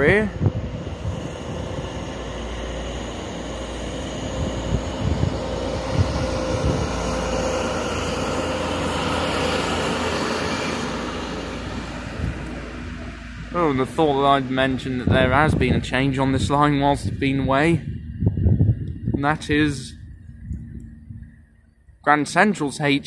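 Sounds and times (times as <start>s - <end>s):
diesel train droning and whining: 0.0s - 23.0s.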